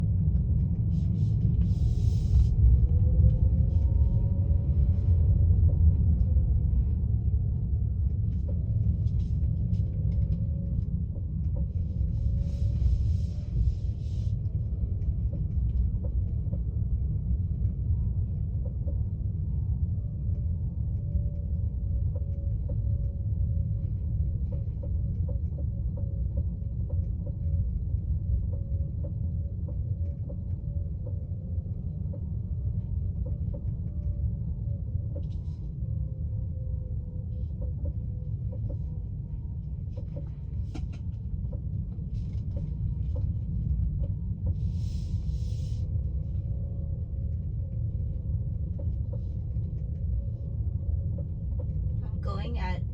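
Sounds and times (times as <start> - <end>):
faint steady whine: 0.0 - 52.9.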